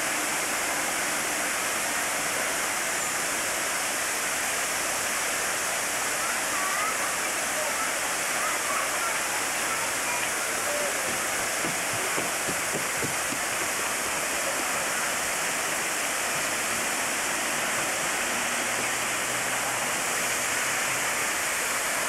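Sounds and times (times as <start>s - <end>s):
water splashing over rocks: 0.0s - 22.0s.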